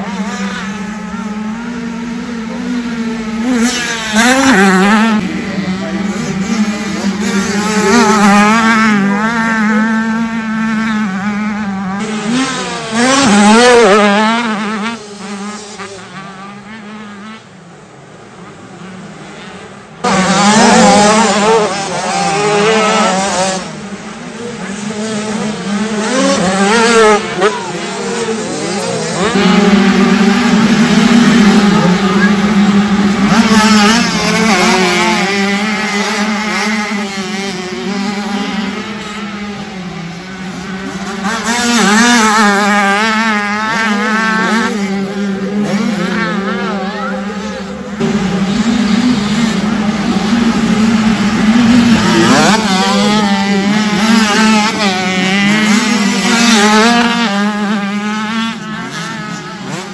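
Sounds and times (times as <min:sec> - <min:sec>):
motocross bikes revving: 0:00.0 - 0:59.9
steady engine drone: 0:00.0 - 0:59.9.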